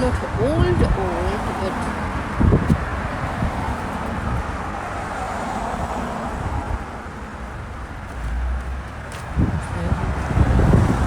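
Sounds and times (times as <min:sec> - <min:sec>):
car passing on road: 0:00.0 - 0:11.0
wind rumble on microphone: 0:00.0 - 0:11.0.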